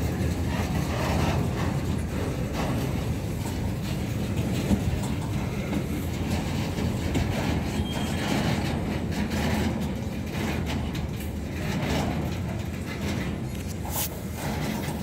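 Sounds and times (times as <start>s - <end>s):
steel wheels rumbling on rails: 0.0s - 15.0s
wheels clacking over rail joints: 0.0s - 15.0s.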